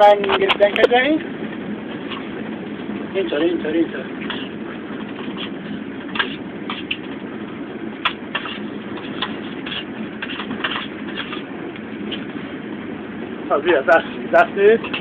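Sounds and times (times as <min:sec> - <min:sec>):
train rumble inside compartment: 0:00.0 - 0:15.0.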